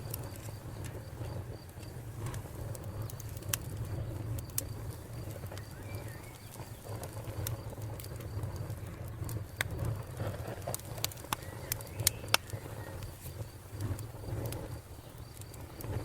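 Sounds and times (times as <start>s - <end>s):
burning wood crackling: 0.0s - 16.0s
fire rumbling: 0.0s - 16.0s.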